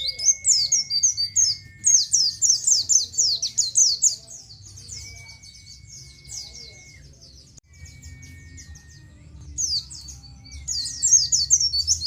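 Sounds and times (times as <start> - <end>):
bird chirping high notes: 0.0 - 12.0.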